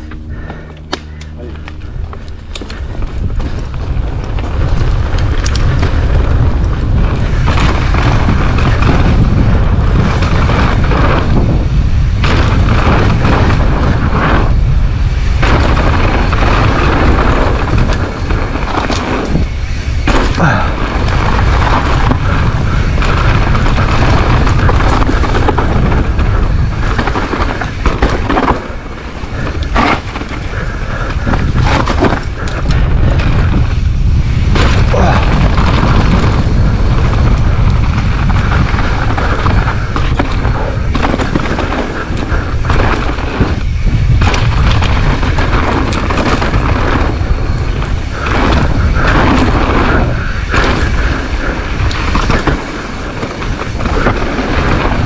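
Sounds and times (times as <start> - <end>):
bike knocking and rattling: 0.0 - 55.0
tyres rolling on dirt: 0.0 - 55.0
wind buffeting microphone: 0.0 - 55.0.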